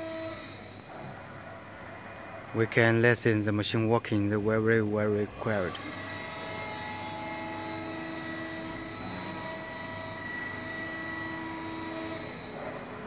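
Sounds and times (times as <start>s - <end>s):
hydraulic pump hum: 0.0s - 13.0s
machine whining tones: 0.0s - 13.0s.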